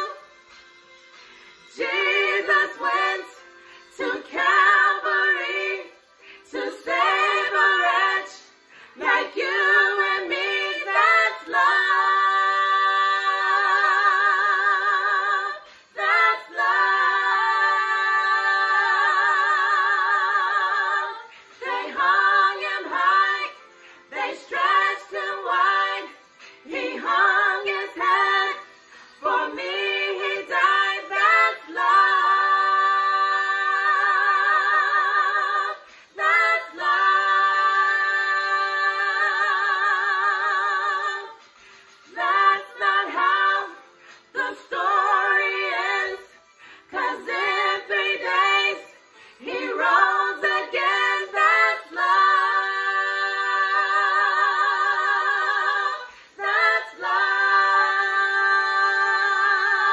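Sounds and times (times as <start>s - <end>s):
women singing a cappella: 0.0s - 0.4s, 1.2s - 59.9s.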